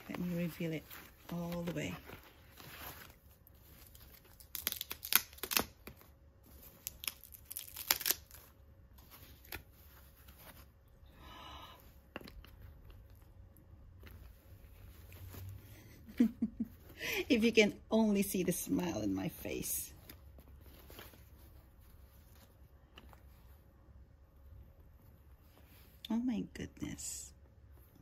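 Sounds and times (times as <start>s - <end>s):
paper and foam crinkling: 0.0s - 11.0s, 12.1s - 23.8s.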